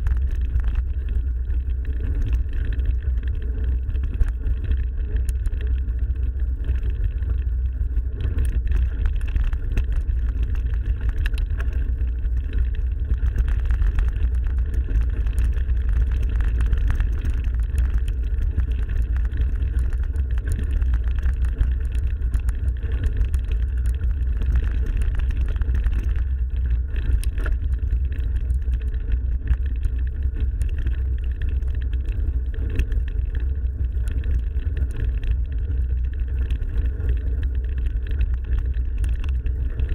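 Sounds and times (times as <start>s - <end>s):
bike ticks and rattles: 0.0s - 39.9s
low wind rumble on microphone: 0.0s - 39.9s.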